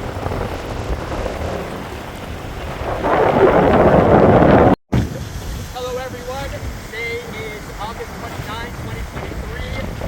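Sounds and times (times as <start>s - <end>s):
gusty wind buffeting microphone: 0.0s - 10.0s
water noise: 0.0s - 10.0s.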